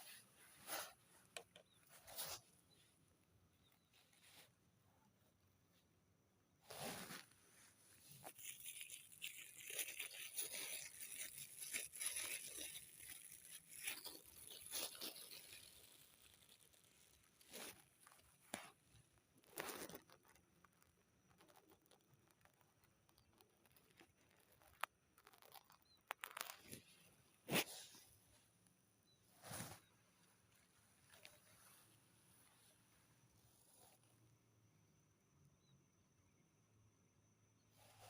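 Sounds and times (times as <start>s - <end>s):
faint rustling and crinkling: 0.0s - 34.4s, 37.7s - 38.0s.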